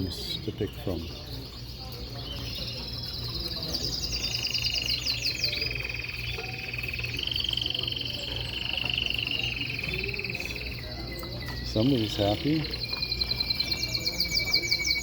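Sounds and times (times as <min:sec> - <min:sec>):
canaries singing trills: 0:00.0 - 0:15.0.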